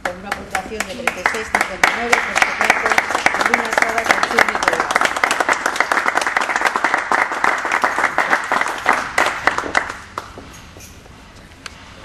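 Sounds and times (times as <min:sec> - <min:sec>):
hands clapping: 0:00.0 - 0:10.5.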